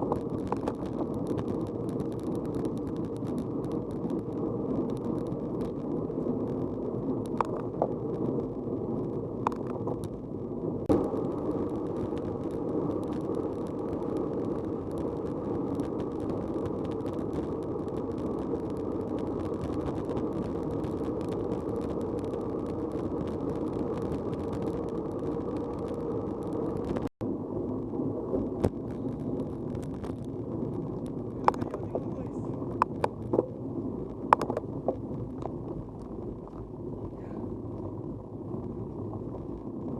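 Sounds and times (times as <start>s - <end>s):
bicycle riding rumble: 0.0s - 39.9s
wind: 0.0s - 39.9s.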